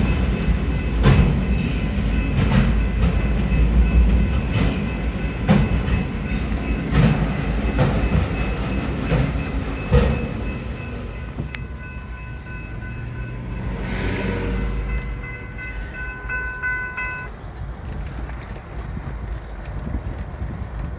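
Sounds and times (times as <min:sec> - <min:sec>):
high steady ringing tones: 0:00.0 - 0:17.3
freight train rolling past: 0:00.0 - 0:20.9.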